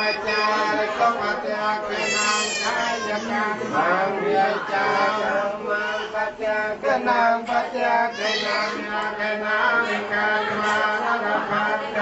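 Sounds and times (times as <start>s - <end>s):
wavering sung voice chanting: 0.0s - 12.0s.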